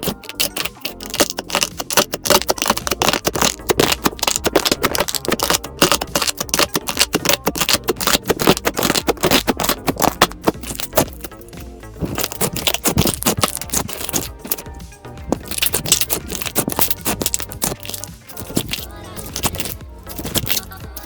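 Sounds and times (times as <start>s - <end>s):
slime squeezed by hand: 0.0s - 14.7s, 15.3s - 20.7s.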